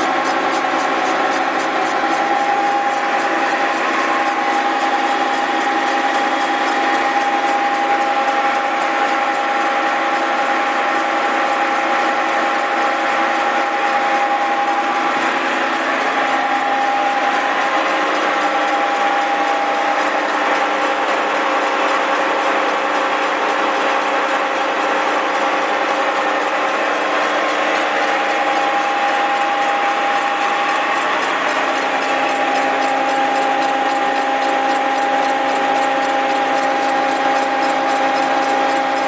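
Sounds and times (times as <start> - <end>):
milling machine whine and ticking: 0.0 - 39.0.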